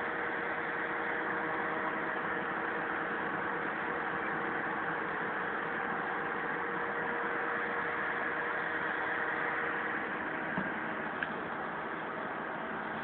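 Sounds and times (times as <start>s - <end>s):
crane engine rumble: 0.0s - 13.0s
faint steady whine: 0.0s - 13.0s.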